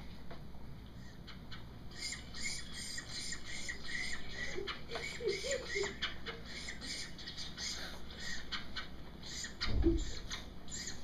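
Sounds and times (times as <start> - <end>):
woodpecker calls over speakers: 1.3 - 11.0.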